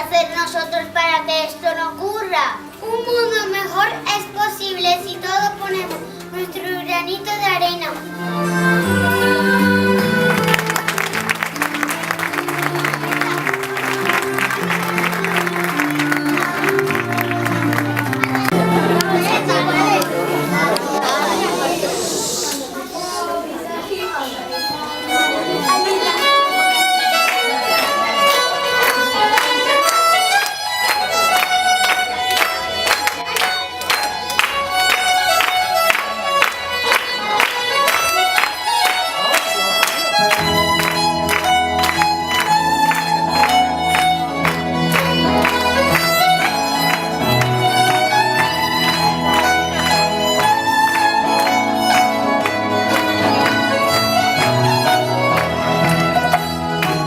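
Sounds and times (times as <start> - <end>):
lively violin music with beat: 7.5 - 23.2, 24.1 - 57.0.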